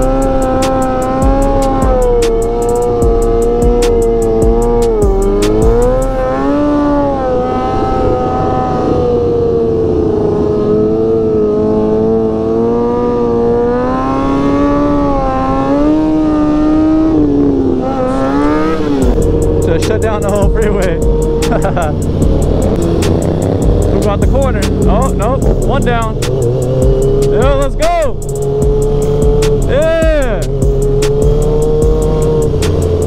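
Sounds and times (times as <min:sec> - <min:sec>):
motorcycle engine revving high: 0:00.0 - 0:33.0.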